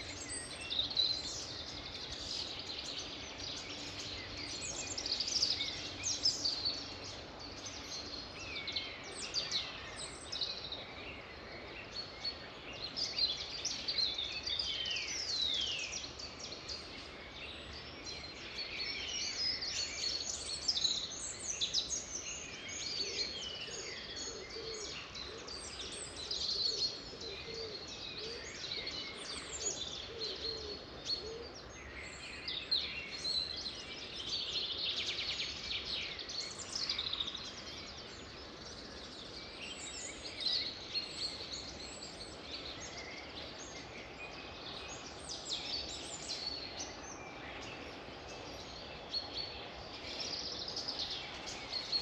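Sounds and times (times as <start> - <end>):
songbirds singing and chirping: 0.0 - 52.0
steady background hiss: 0.0 - 52.0.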